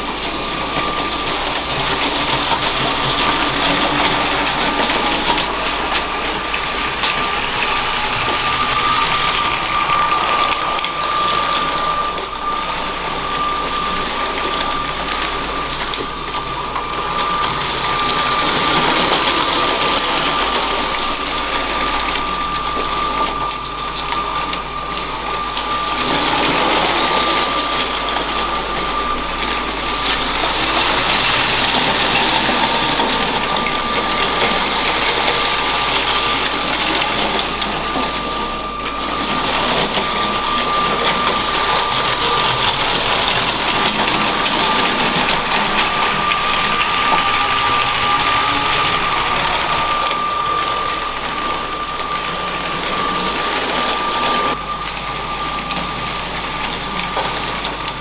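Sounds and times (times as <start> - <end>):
toy train wheels clicking on rails: 0.0 - 54.6
toy train electric motor whine: 0.0 - 58.0.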